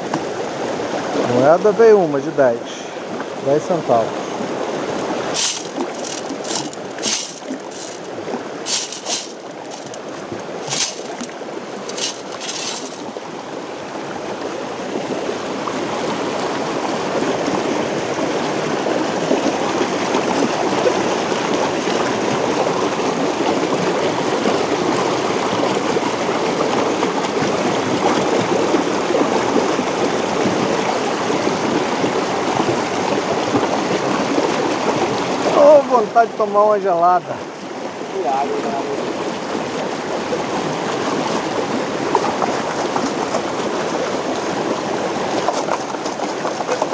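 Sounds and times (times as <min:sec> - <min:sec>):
waterfall rushing over rocks: 0:00.0 - 0:46.9.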